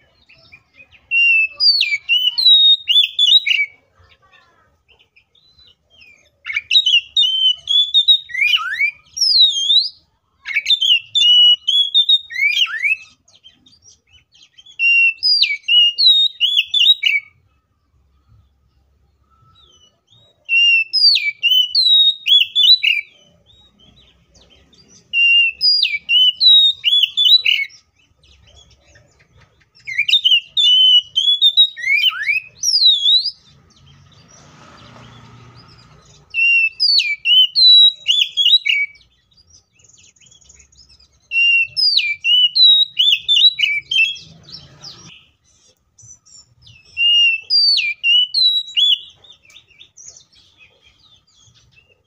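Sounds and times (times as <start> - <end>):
songbird whistling song: 0.0 - 3.8, 4.9 - 52.0.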